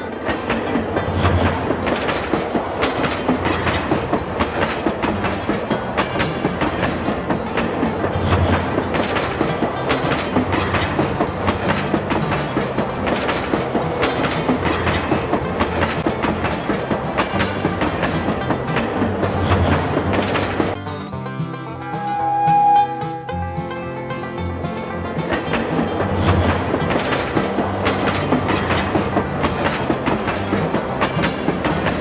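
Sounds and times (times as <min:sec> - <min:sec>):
train wheels clickety-clack: 0:00.0 - 0:20.8, 0:24.3 - 0:32.0
train rumble: 0:00.0 - 0:32.0.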